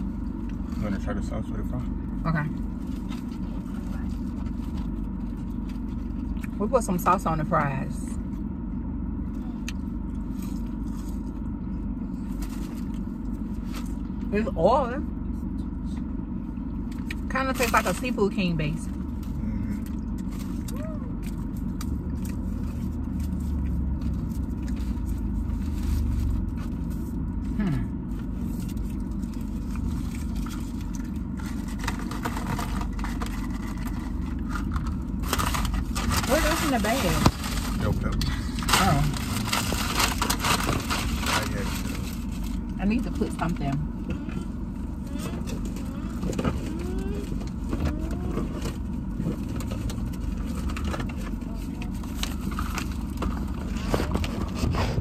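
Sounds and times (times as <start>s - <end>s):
car cabin hum: 0.0s - 55.0s.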